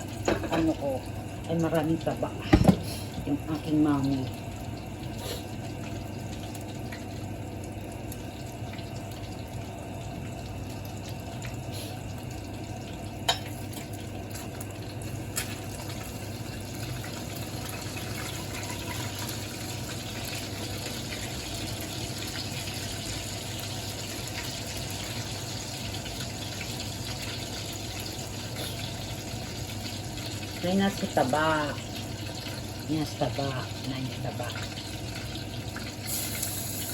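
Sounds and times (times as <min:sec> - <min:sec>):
pork sizzling in a wok: 0:00.0 - 0:36.9.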